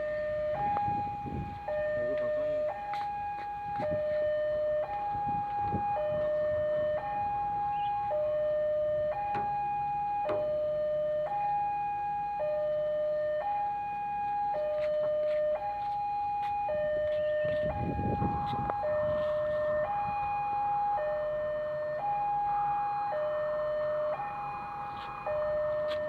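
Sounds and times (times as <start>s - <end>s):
level crossing alarm two-tone: 0.0s - 26.0s.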